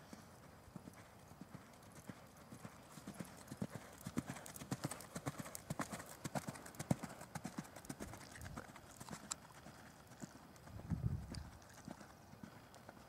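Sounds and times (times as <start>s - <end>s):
horse hooves cantering on sand: 0.0s - 13.0s.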